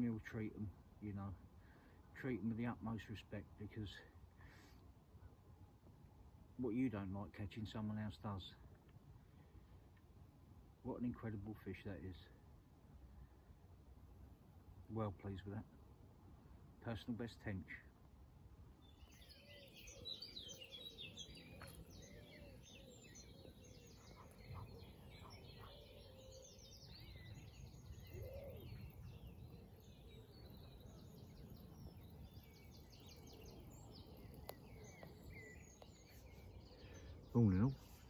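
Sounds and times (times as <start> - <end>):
low steady background noise: 0.0 - 38.0
songbirds chirping and warbling: 0.0 - 38.0.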